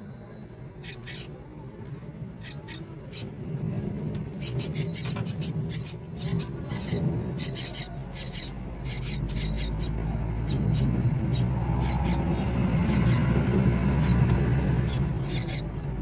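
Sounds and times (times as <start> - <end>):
nestlings begging calls: 0.8 - 1.4, 2.4 - 3.4, 4.2 - 15.7.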